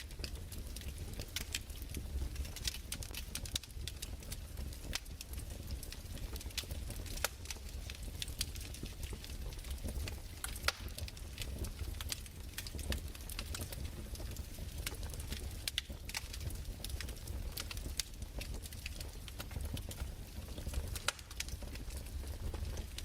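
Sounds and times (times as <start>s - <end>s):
fireplace crackling: 0.0s - 23.0s.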